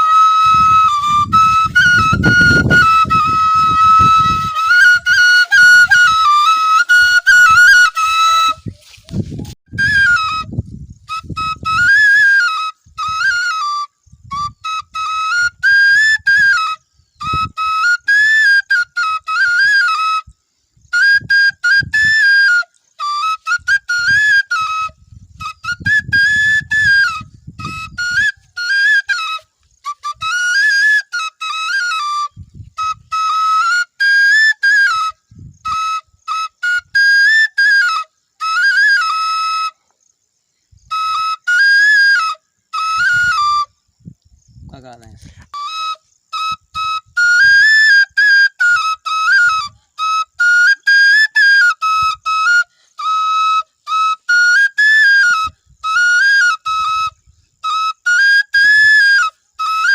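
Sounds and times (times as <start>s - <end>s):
bamboo flute melody: 0.0s - 44.2s, 44.8s - 59.9s.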